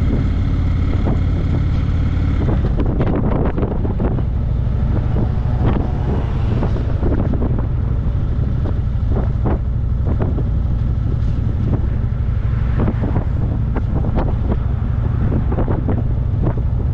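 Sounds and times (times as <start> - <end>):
low car rumble: 0.0 - 16.9
wind buffeting microphone: 0.0 - 16.9.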